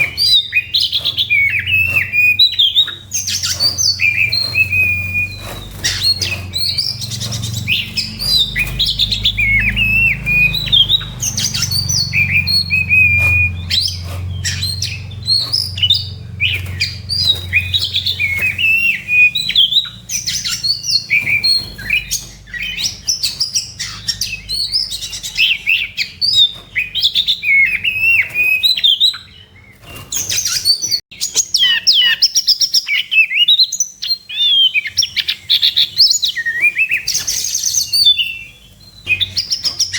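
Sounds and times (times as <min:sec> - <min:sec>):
bird singing whistles and chatter: 0:00.0 - 0:39.9.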